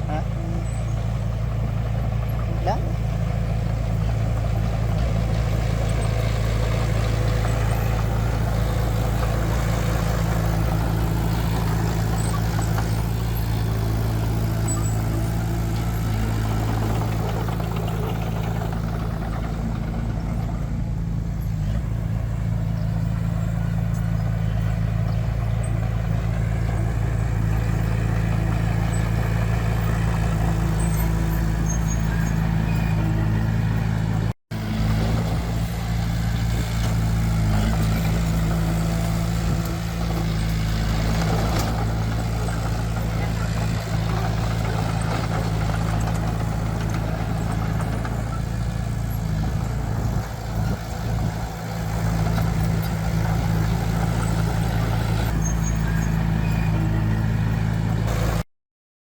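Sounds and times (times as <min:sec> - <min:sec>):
diesel machinery engine hum: 0:00.0 - 0:58.5.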